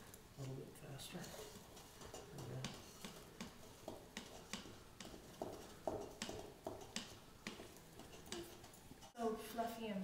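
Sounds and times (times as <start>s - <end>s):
spatula scraping metal bowl: 1.1s - 9.2s.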